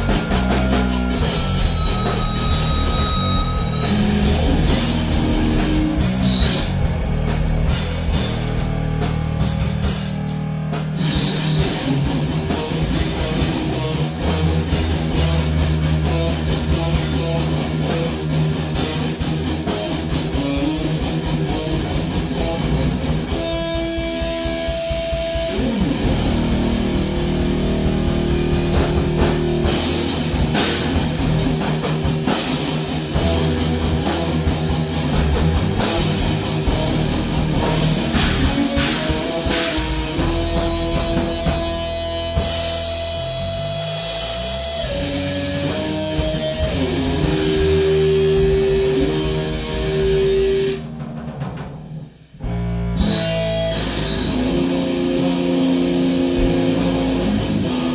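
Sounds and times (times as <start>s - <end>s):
rock band jamming: 0.0s - 57.9s.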